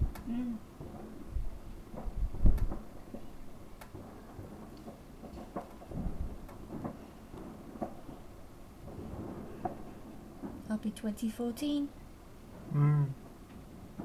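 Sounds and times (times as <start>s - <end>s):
fireworks booming: 0.0s - 11.0s, 12.4s - 14.0s
fireworks cracking: 0.0s - 14.0s.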